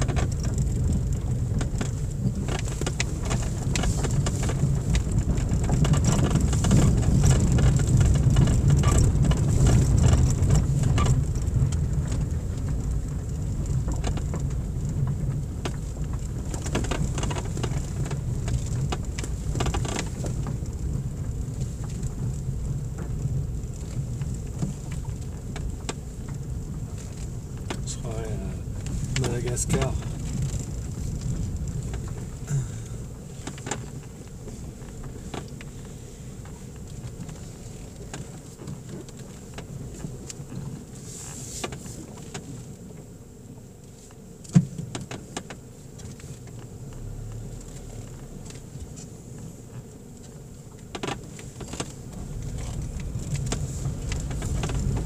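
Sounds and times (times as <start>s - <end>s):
car engine and tyre rumble: 0.0s - 55.0s
gravel clicks and ticks: 0.0s - 55.0s.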